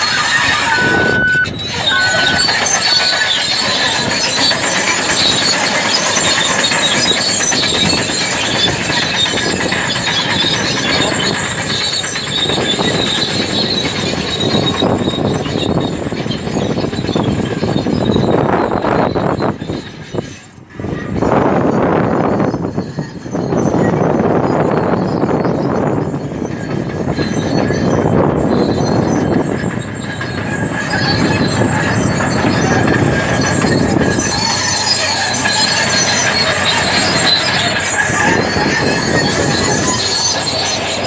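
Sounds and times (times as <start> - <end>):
bulldozer diesel engine under load: 0.0 - 41.0
steel tracks clanking and squealing: 0.0 - 41.0.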